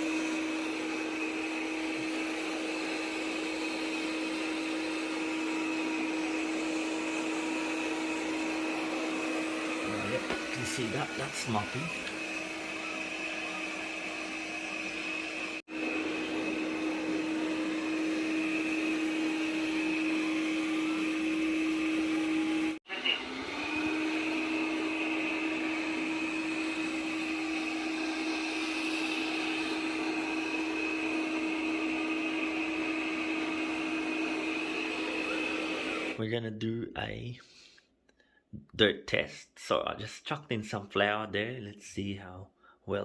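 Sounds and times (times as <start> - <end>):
robot vacuum motor hum and whine: 0.0 - 36.2.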